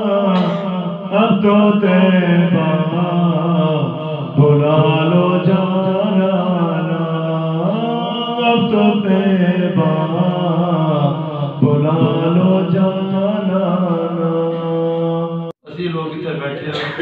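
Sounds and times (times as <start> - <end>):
man singing unaccompanied: 0.0 - 15.5.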